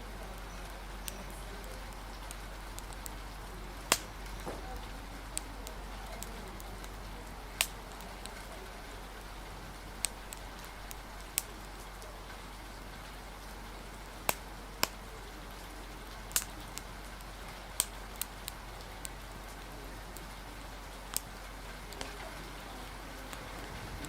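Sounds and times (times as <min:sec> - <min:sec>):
rain: 0:00.0 - 0:24.0
wind: 0:00.0 - 0:24.0
wood fire crackling: 0:00.0 - 0:24.0.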